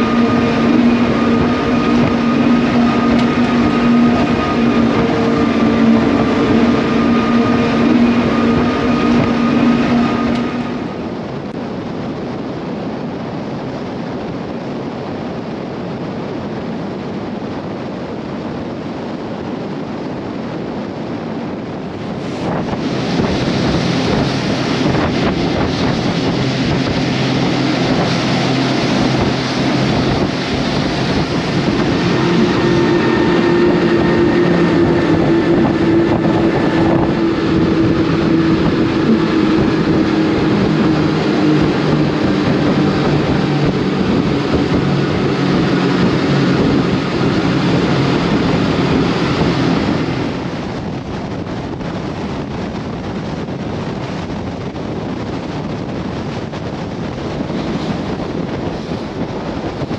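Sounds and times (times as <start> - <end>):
hull spray: 0.0 - 11.6, 16.8 - 59.9
outboard engines droning: 0.0 - 59.9
wind on microphone: 0.0 - 59.9.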